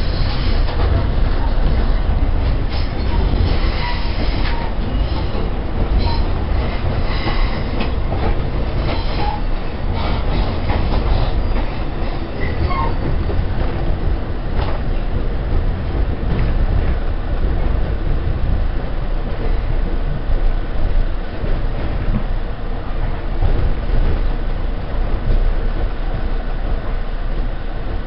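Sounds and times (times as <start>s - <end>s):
train rumble on rails: 0.0s - 28.0s.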